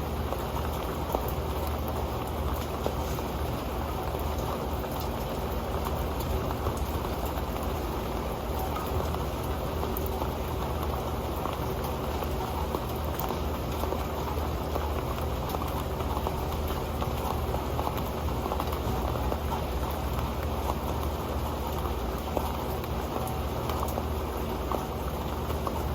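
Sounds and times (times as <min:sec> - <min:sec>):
rain pattering on a pan: 0:00.0 - 0:25.9.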